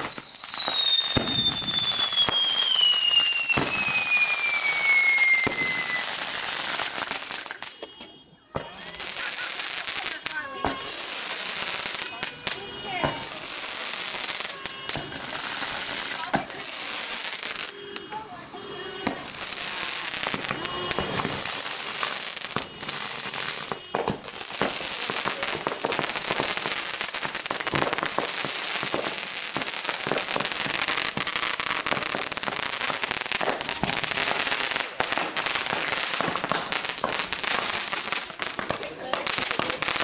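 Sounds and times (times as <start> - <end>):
fireworks crackling and banging: 0.0 - 40.0
fireworks launching with hiss: 0.0 - 40.0.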